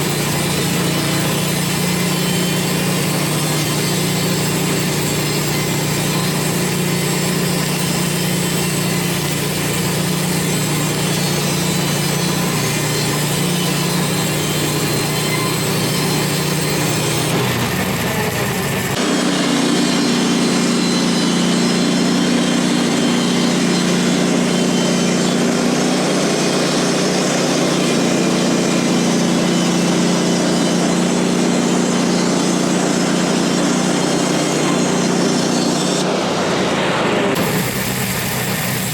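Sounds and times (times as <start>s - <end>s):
saw blade cutting log: 0.0s - 38.9s
sawmill engine running: 0.0s - 38.9s.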